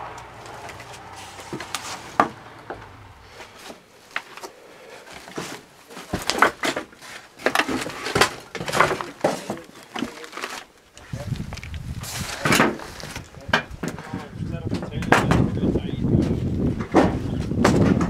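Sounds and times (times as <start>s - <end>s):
debris and boards clattering: 0.0s - 10.7s, 12.0s - 15.5s, 16.2s - 18.0s.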